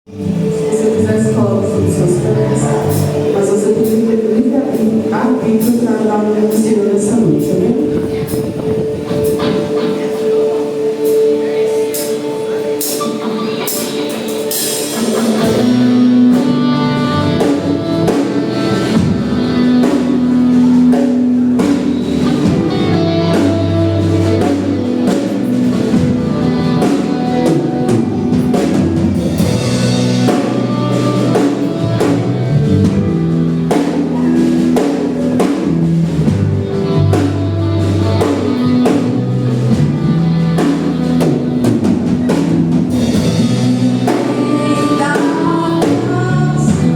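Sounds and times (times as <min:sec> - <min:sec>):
guitar: 0:00.0 - 0:46.9
band playing instrumental music: 0:00.1 - 0:46.9
bass notes: 0:00.1 - 0:46.9
drum kit beat: 0:00.1 - 0:46.9.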